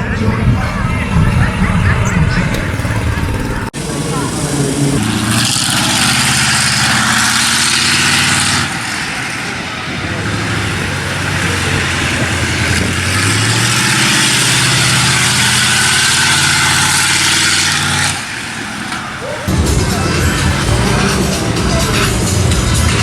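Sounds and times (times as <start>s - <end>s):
vehicle engine running loudly: 0.0s - 23.0s.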